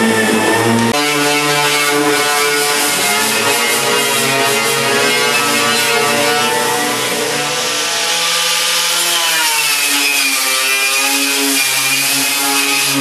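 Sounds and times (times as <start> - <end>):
power tool scrubbing sheet metal: 0.0 - 13.0.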